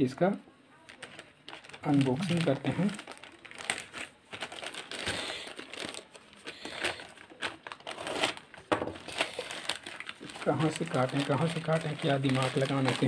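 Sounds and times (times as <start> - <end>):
plastic mailer bag crinkling: 0.8 - 13.0.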